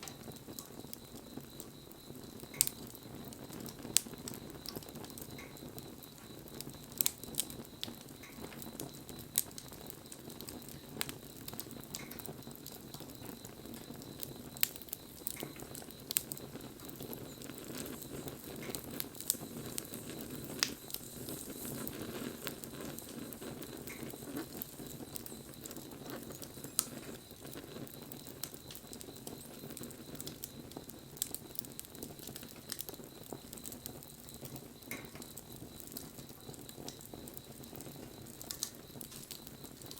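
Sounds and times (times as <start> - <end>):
wood fire crackling and popping: 0.0 - 39.9
rush of flame: 0.2 - 34.9.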